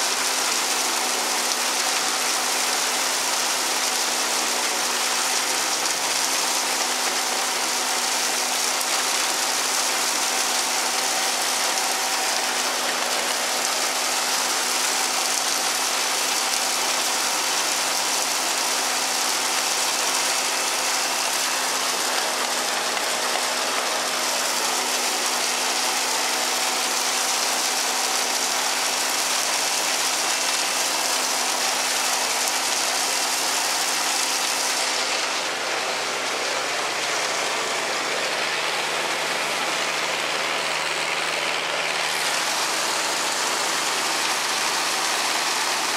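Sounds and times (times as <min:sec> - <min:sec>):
silage pouring hiss: 0:00.0 - 0:45.9.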